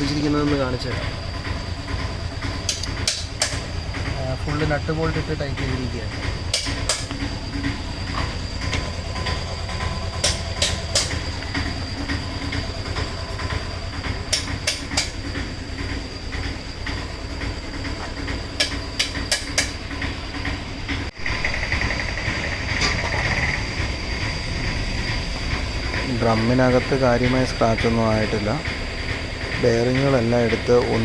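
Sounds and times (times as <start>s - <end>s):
hissy background: 0.0s - 31.0s
workshop rumble with high whine: 0.0s - 31.0s.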